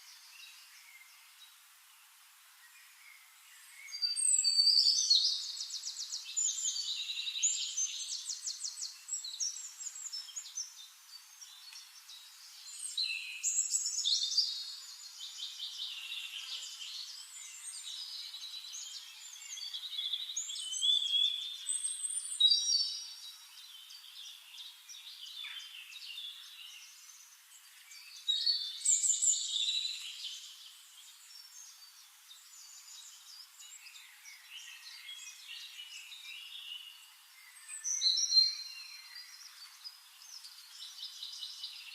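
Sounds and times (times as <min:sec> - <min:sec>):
songbirds chirping and trilling: 0:00.0 - 0:41.9.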